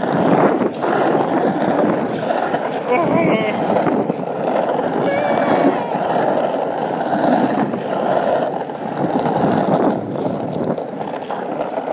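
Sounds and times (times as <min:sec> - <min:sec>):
skateboard wheels on rough asphalt: 0:00.0 - 0:11.9.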